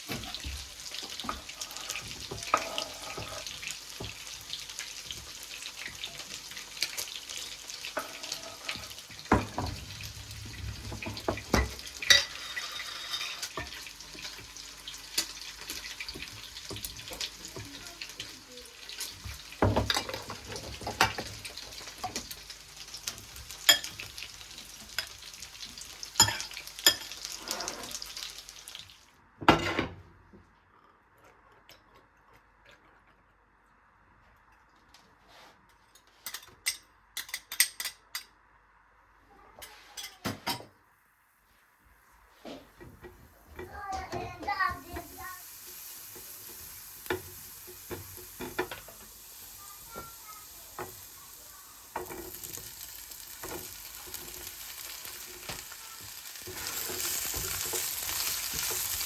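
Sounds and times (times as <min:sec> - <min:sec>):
food sizzling in a pan: 0:00.0 - 0:29.2, 0:39.6 - 0:59.0.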